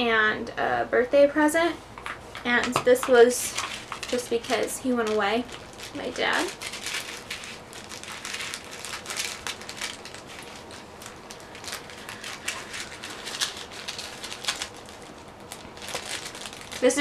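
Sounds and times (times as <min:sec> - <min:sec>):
small objects clicking and rustling: 0:02.4 - 0:17.0.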